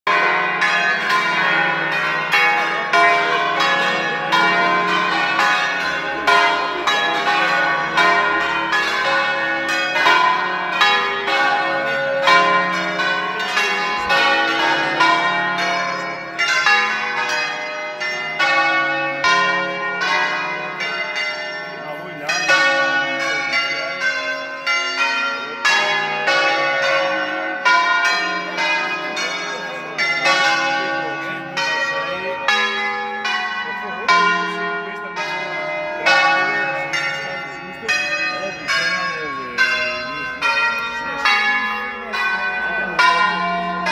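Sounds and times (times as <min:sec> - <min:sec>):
church bells ringing: 0:00.1 - 0:43.9.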